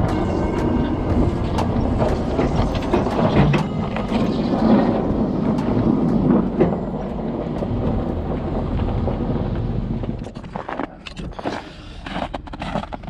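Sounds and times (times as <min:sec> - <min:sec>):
diesel engine running: 0:00.0 - 0:11.1.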